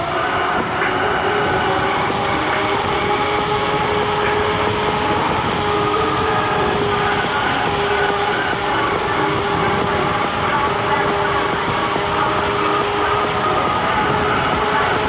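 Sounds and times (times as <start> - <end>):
electric motor whine: 0.0 - 15.0
wind and road noise: 0.0 - 15.0.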